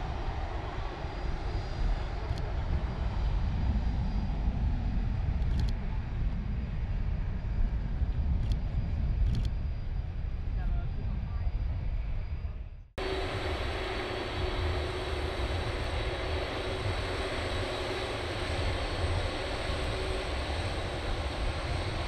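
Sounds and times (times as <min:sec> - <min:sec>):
jet engines at taxi power: 0:00.0 - 0:22.0.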